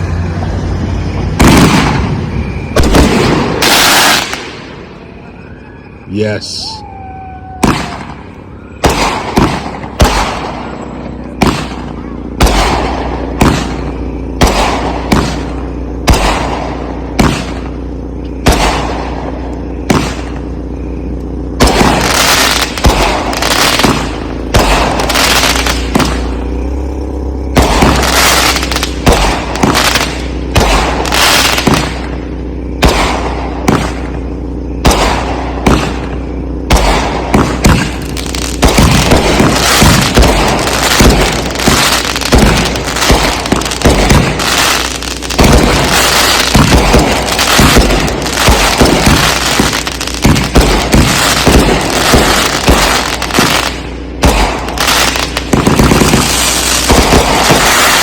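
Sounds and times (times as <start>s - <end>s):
fireworks booming: 0.0s - 58.0s.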